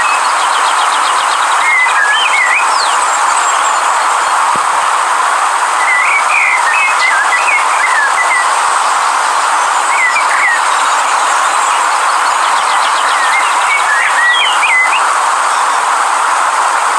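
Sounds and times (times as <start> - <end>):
songbird warbling: 0.0 - 4.6, 5.8 - 15.0
river rushing: 0.0 - 16.9.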